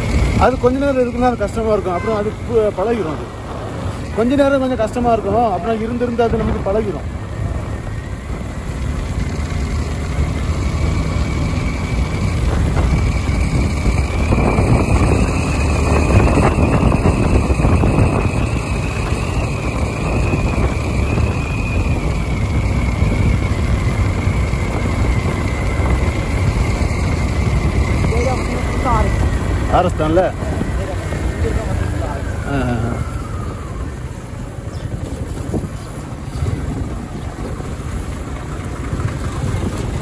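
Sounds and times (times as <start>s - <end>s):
motorcycle engine: 0.0s - 40.0s
wind buffeting microphone: 0.0s - 40.0s.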